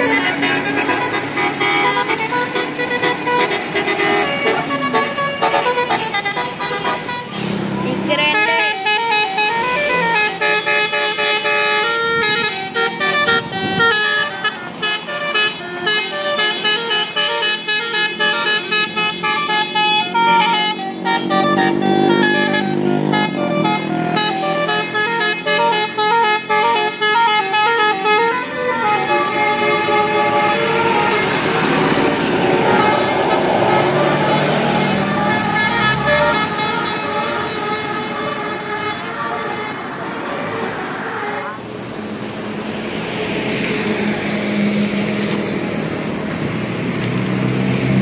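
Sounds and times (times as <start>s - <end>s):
vehicle horns sounding: 0.0s - 41.7s
traffic noise: 0.0s - 48.0s.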